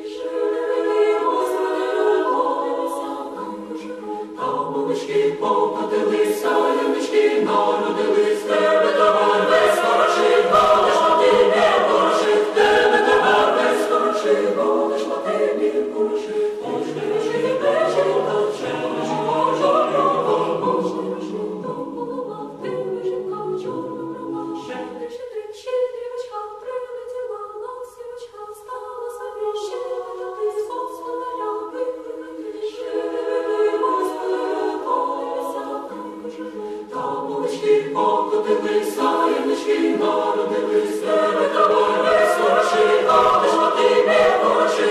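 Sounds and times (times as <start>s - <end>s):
choir singing in harmony: 0.0s - 44.9s.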